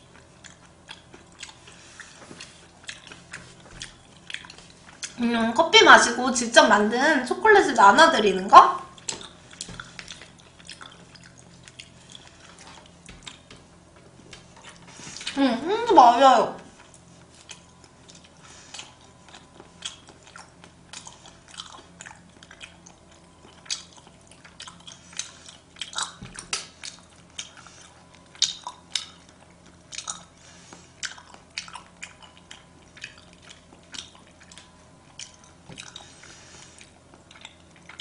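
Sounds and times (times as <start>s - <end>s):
person chewing with mouth clicks: 0.0s - 5.2s, 8.8s - 15.4s, 16.8s - 38.0s.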